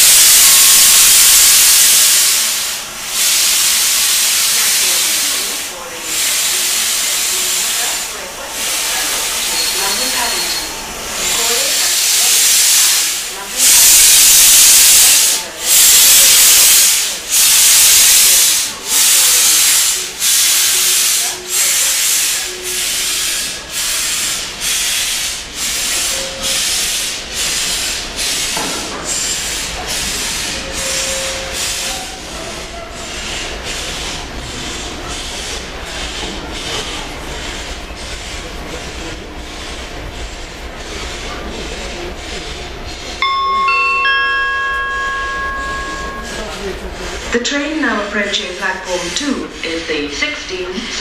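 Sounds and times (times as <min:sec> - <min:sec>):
steam locomotive exhaust beats: 0:00.0 - 0:51.0.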